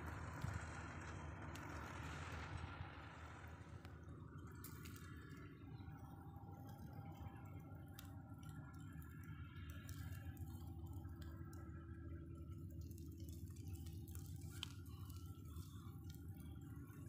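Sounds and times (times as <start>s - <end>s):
fire crackling and ticking: 0.0s - 17.0s
steady low rumble: 0.0s - 17.0s.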